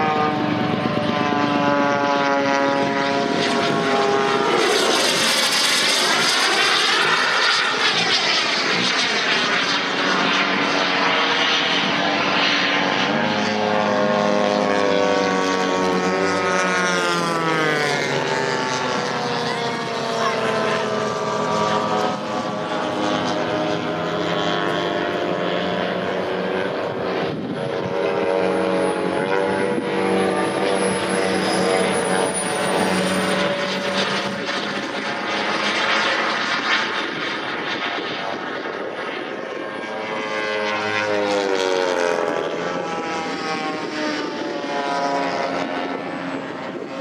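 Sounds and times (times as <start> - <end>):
model aircraft engines droning: 0.0 - 47.0.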